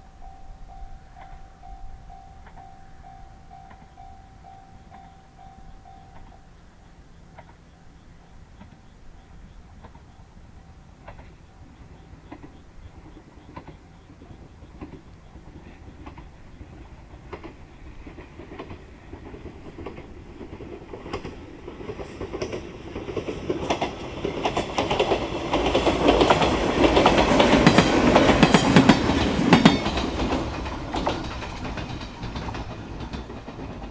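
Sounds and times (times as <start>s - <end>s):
electric train passing: 0.0s - 33.9s
wheels clicking over rail joints: 0.0s - 33.9s.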